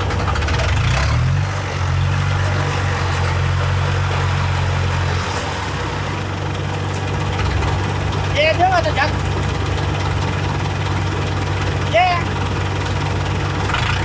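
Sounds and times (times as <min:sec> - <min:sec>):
tracked vehicle engine running: 0:00.0 - 0:14.0.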